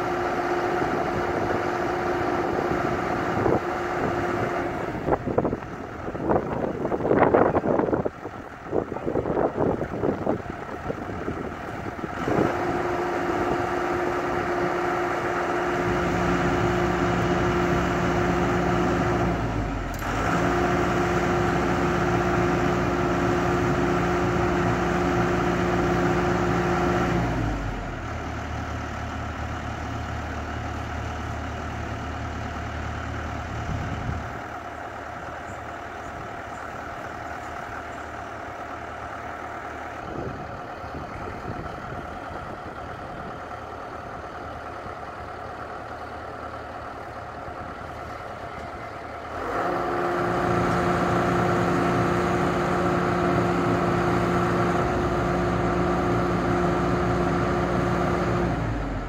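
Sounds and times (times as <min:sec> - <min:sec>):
low engine sound: 0:00.0 - 0:59.0.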